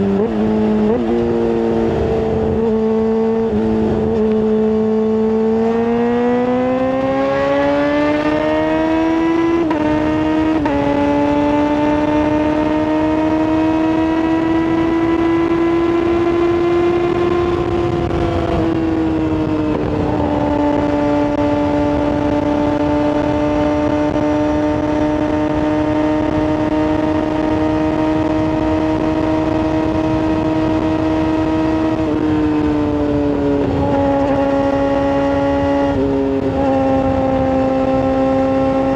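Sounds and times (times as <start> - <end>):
sport bike engine revving high: 0.0 - 38.9.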